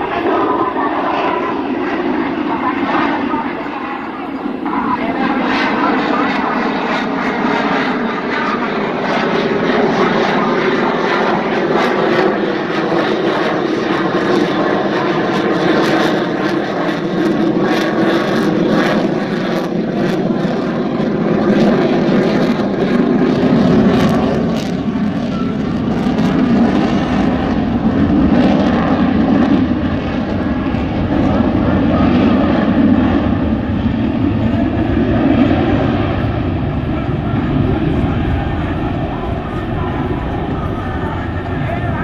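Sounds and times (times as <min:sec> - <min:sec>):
fighter jet engine roar: 0:00.0 - 0:42.0.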